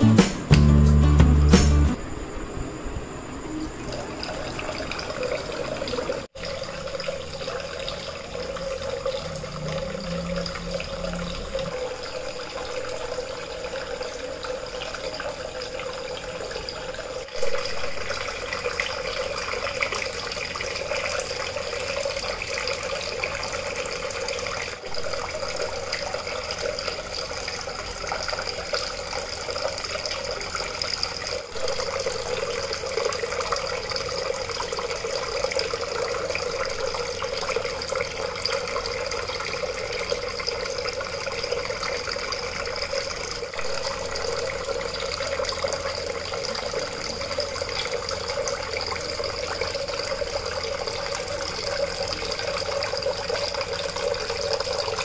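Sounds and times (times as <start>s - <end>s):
fountain water splashing into basin: 3.8s - 55.0s.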